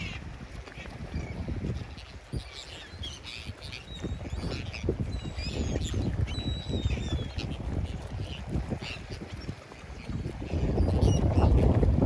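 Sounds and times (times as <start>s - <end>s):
gulls calling: 0.0s - 11.9s.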